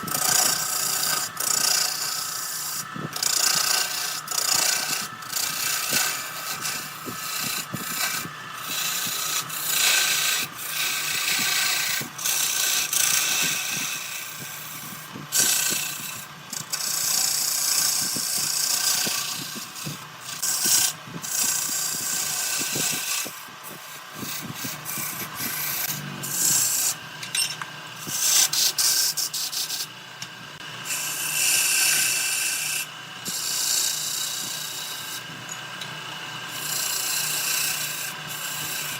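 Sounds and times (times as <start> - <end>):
lathe humming: 0.0 - 38.9
tool scraping spinning wood: 0.0 - 38.9.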